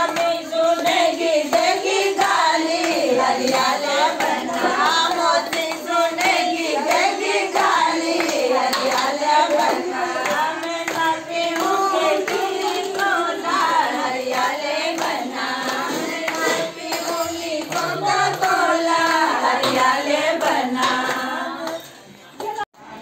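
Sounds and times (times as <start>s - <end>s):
women singing folk song: 0.0s - 22.6s
hand clapping: 0.0s - 22.7s.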